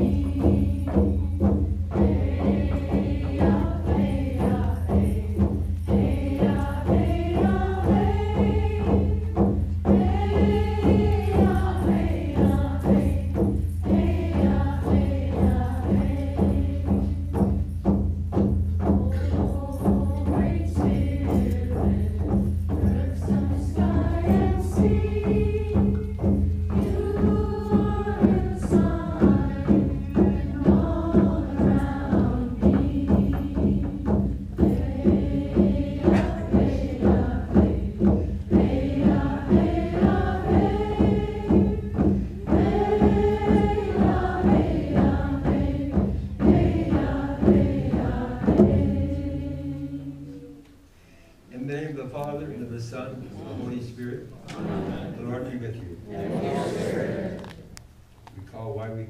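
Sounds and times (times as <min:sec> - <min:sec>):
congregation and choir singing hymn: 0:00.0 - 0:17.7, 0:18.8 - 0:50.8, 0:52.1 - 0:57.8
regular percussive beat: 0:00.0 - 0:59.0.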